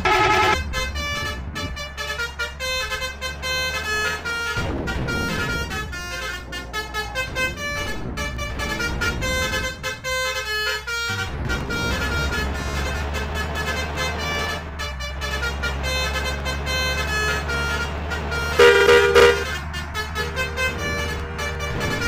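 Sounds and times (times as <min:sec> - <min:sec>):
bus engine rumble: 0:00.0 - 0:22.0
musical air horn tune: 0:00.0 - 0:22.0.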